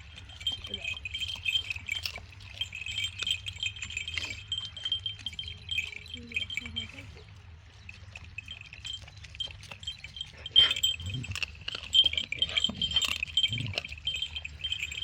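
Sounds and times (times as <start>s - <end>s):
tinkling chimes: 0.0s - 15.0s.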